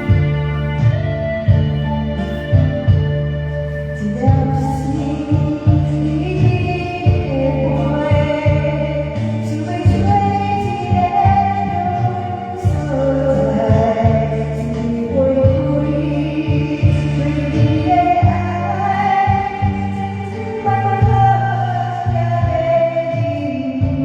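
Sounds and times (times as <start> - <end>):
karaoke backing track: 0.0 - 24.0
woman singing slow song: 0.0 - 24.0.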